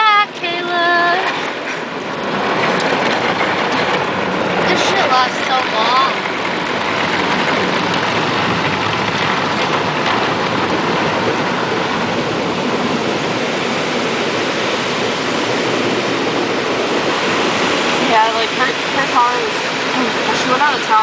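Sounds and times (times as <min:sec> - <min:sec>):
water spray on car: 0:02.2 - 0:21.0.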